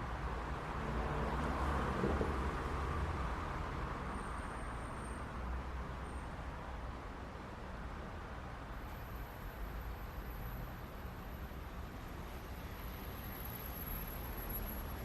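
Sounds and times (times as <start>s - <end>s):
rumble of car traffic: 0.0s - 15.0s.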